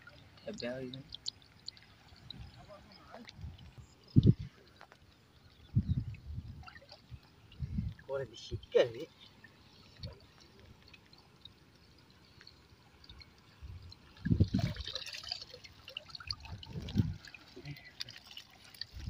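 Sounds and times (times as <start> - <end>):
river water sloshing and dripping: 0.0 - 19.0.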